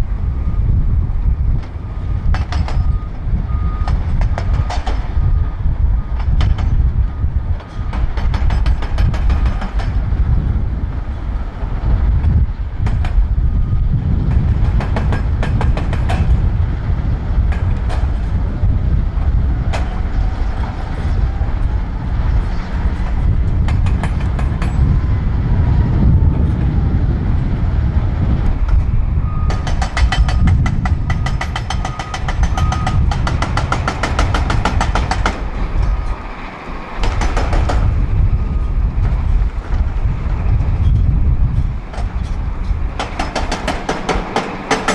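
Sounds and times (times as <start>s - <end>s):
heavy machinery low rumble: 0.0s - 44.9s.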